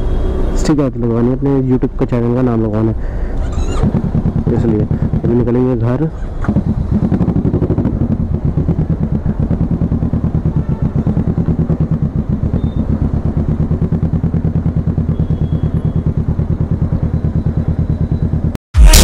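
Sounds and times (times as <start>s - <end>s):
motorcycle engine idling: 3.0s - 18.6s.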